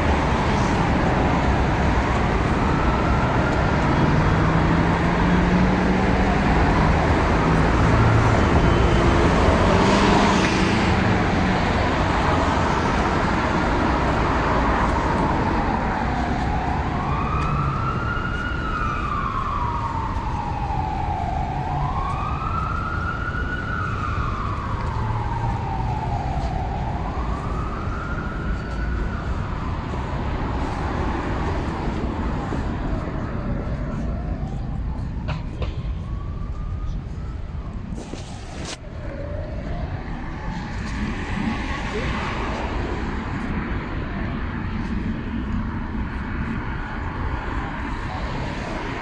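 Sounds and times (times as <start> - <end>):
city traffic noise: 0.0 - 49.0
emergency vehicle siren wailing: 0.0 - 49.0.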